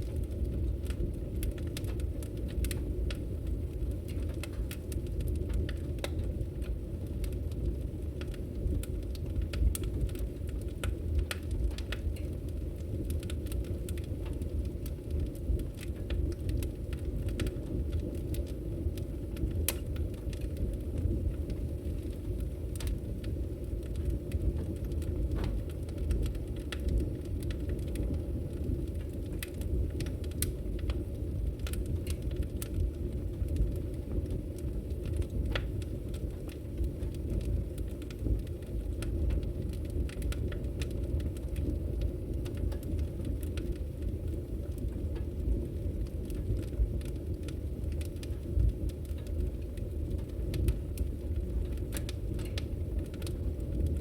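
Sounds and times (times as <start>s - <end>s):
fire crackles and pops: 0.0s - 54.0s
wood fire burning: 0.0s - 54.0s.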